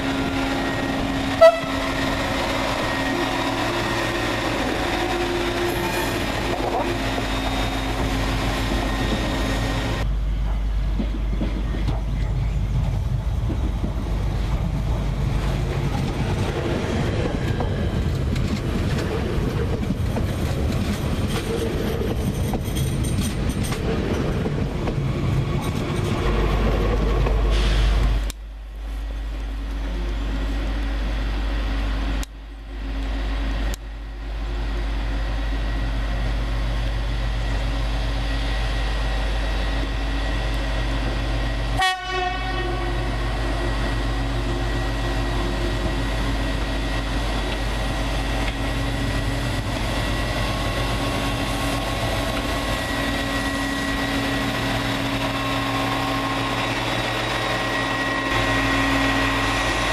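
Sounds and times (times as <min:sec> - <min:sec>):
rail vehicle engine running: 0:00.0 - 0:59.9.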